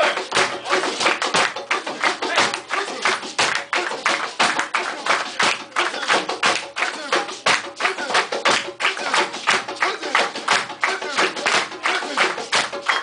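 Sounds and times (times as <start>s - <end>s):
group clapping in rhythm: 0.0s - 13.0s.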